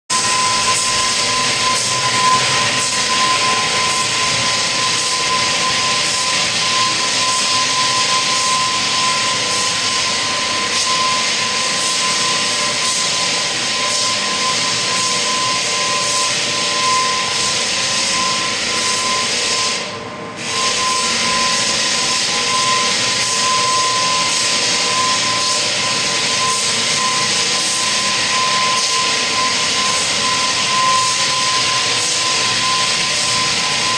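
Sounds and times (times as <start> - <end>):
floor sanding machine running: 0.1 - 33.9.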